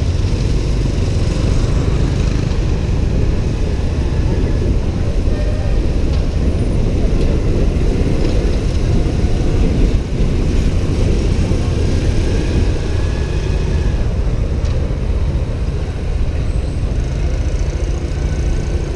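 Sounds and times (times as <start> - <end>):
motorbike engine: 0.0 - 18.9.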